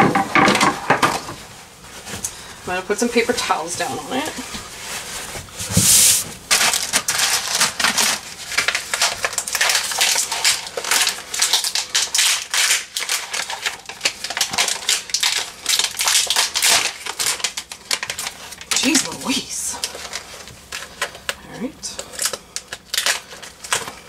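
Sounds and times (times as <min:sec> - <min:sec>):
plastic packaging crinkling: 0:03.1 - 0:24.0.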